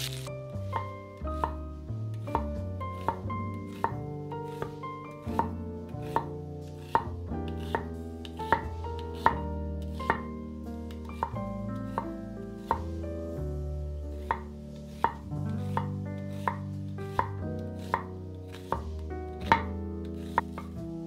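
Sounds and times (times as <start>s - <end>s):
knife chopping on wooden board: 0.0s - 1.6s, 2.2s - 13.0s, 14.2s - 20.8s
soft background music: 0.0s - 21.0s.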